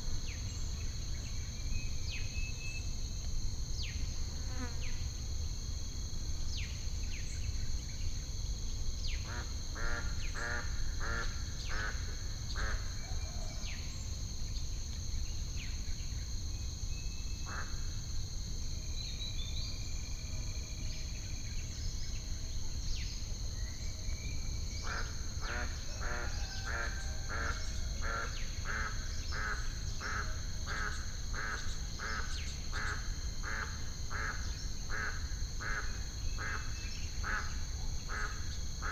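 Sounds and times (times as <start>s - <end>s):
high insect-like whine: 0.0s - 38.9s.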